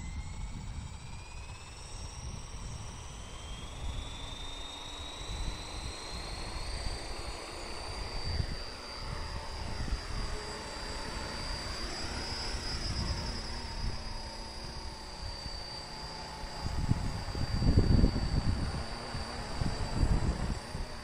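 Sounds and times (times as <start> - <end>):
helicopter rotor whining: 0.0 - 21.0.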